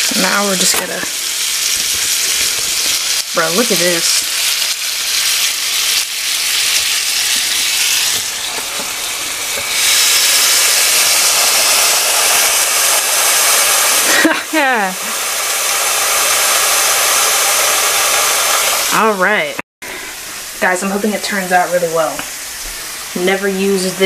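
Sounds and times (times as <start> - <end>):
steak sizzling on grill: 0.0 - 19.5, 20.1 - 24.0.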